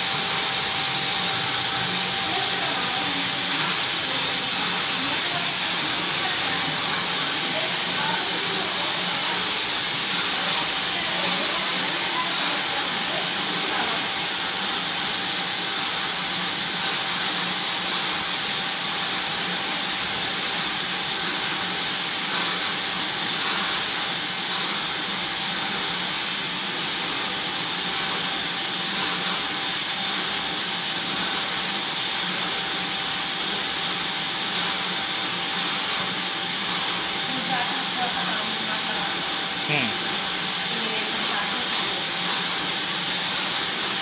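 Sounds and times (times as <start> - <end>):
reeling machines whirring: 0.0 - 44.0.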